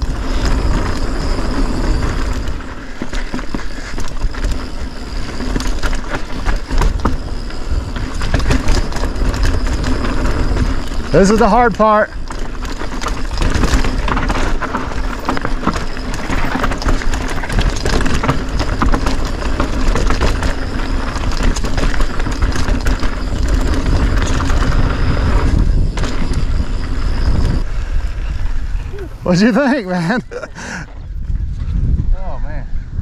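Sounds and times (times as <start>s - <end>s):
bike clattering over bumps: 0.0s - 31.0s
bike tyres crunching on dirt: 0.0s - 31.9s
wind rumble on microphone: 0.0s - 33.0s.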